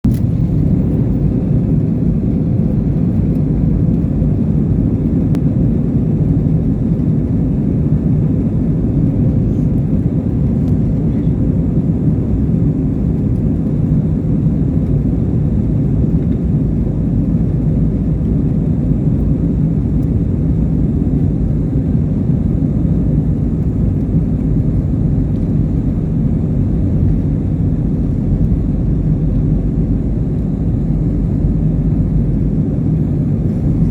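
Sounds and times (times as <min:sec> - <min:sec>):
airplane rumble in flight: 0:00.0 - 0:33.9.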